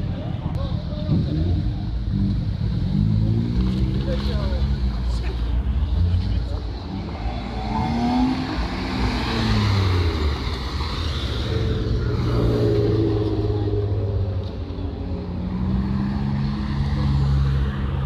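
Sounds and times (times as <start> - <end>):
cars driving past: 0.1 - 18.0.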